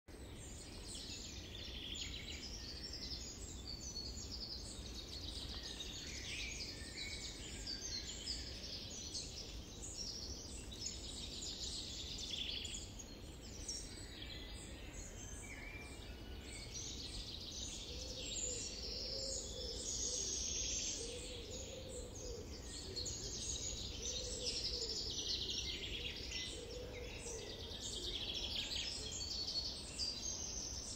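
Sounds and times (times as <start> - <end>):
small birds chirping and singing: 0.1 - 30.9
steady low background hiss: 0.1 - 30.9.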